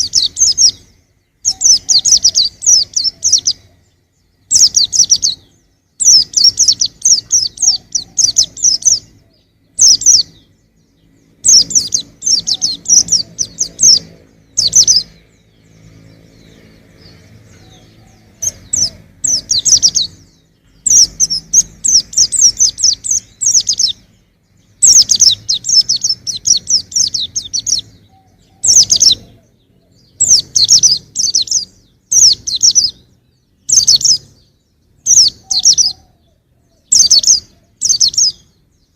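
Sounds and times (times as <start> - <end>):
bird twittering: 0.0 - 38.9.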